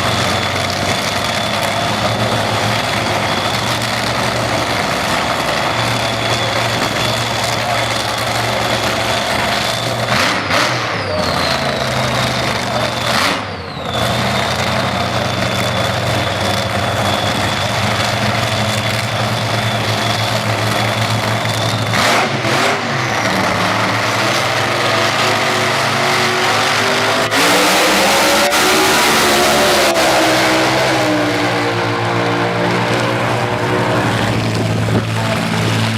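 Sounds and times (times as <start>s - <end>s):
engine running at low revs: 0.0s - 35.9s.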